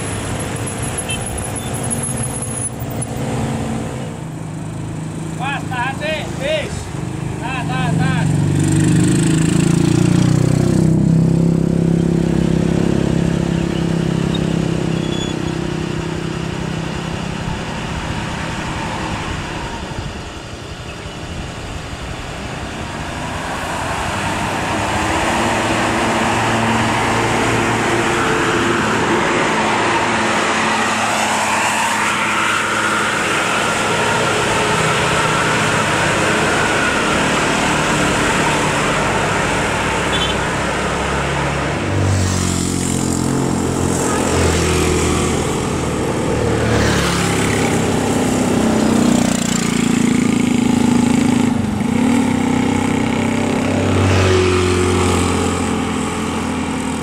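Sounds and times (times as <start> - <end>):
engine whine: 0.0 - 57.0.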